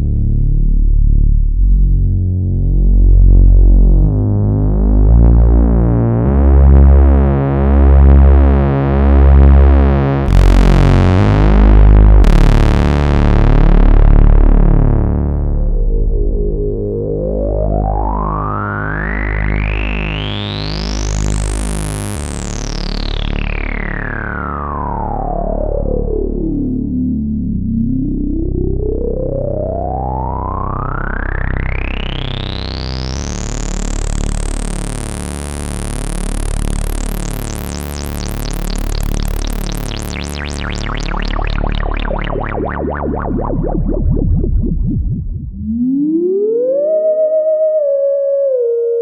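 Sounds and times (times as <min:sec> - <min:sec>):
analog synthesizer bass line: 0:00.0 - 0:49.0.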